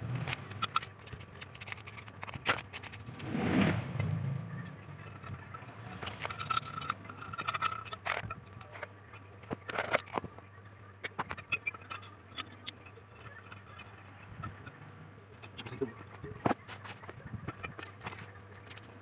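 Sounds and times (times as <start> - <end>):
low steady hum: 0.0 - 19.0
small objects scraping and clicking: 0.0 - 19.0.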